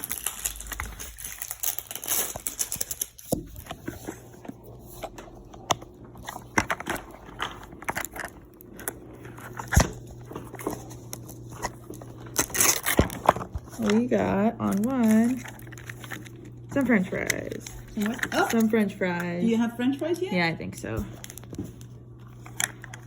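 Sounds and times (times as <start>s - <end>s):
plastic clicks and crackles: 0.0s - 19.3s, 21.2s - 23.0s
plastic wrap crinkling: 0.0s - 23.0s.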